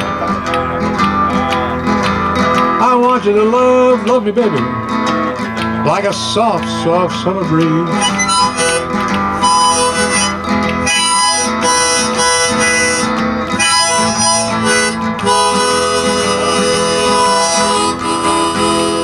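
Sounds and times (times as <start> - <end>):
blues harmonica solo: 0.0 - 19.0
guitar accompaniment: 0.0 - 19.0.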